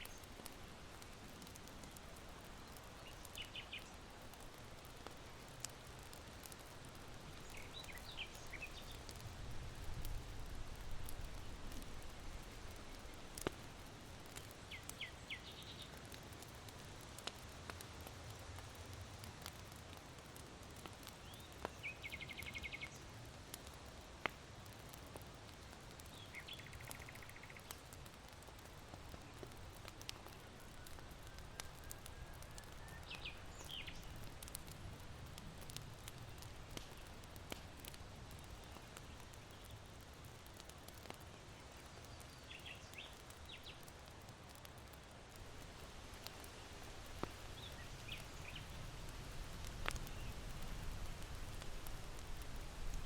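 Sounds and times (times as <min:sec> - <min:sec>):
charcoal embers crackling: 0:00.0 - 0:53.0.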